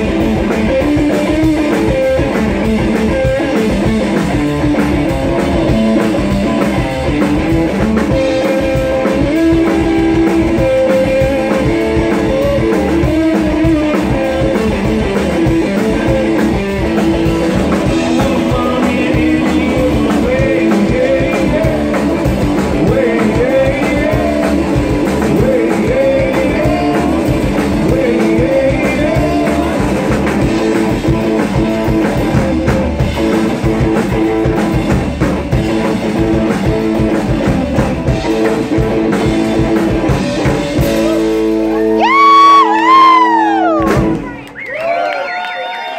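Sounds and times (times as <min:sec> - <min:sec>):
drum kit: 0:00.0 - 0:44.7
upright bass: 0:00.0 - 0:45.0
electric guitar lead: 0:00.0 - 0:45.9.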